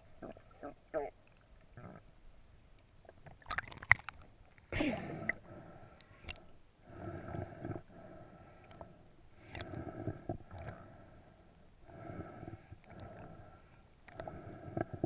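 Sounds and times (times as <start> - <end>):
muffled underwater water noise: 0.0 - 15.0.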